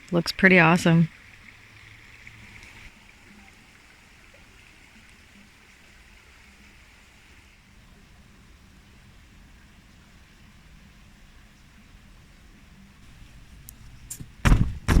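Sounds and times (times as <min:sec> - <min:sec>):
flowing water rushing: 0:00.0 - 0:14.1.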